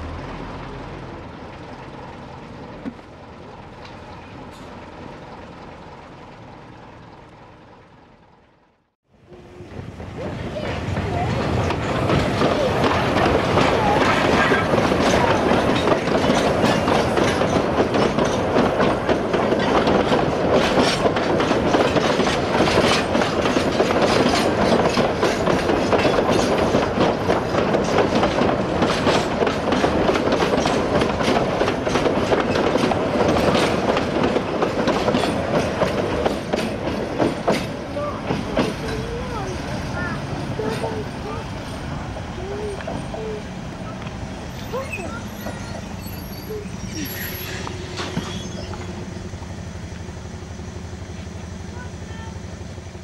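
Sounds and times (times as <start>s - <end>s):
train wheels clicking on rail joints: 0.1s - 8.6s, 9.3s - 53.0s.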